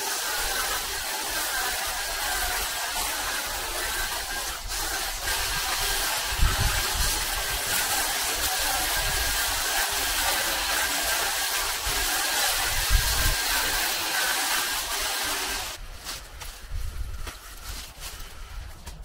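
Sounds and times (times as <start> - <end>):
hedge trimmer whirring buzz: 0.0 - 15.8.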